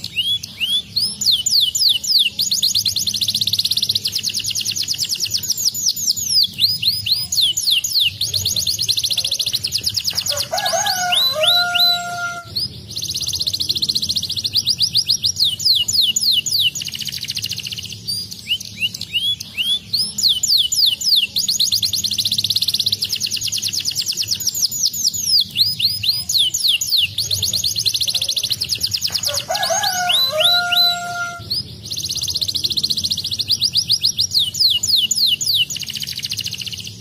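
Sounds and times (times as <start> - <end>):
canary singing trills: 0.0 - 37.0.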